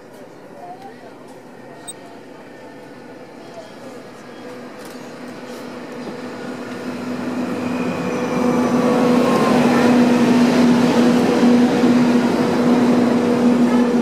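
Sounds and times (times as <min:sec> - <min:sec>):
electric locomotive hum: 0:01.3 - 0:14.0.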